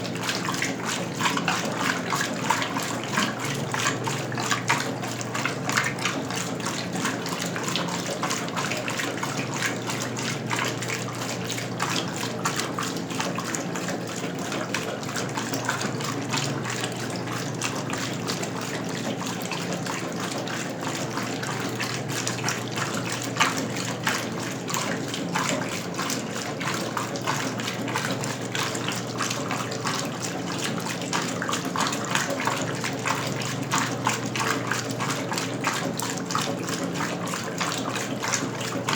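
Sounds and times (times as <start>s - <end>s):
water splashing in washing machine: 0.0s - 38.9s.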